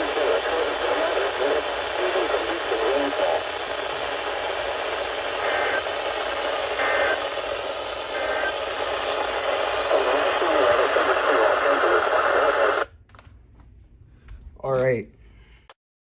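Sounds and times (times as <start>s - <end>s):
faint radio speech: 0.0s - 12.8s
radio static hiss: 0.0s - 12.9s.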